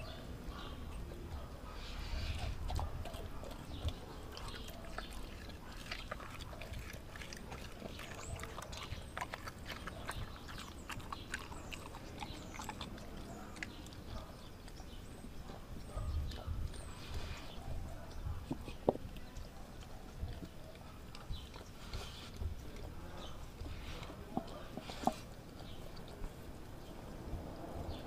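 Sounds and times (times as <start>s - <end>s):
dog chewing and licking: 0.1s - 27.4s.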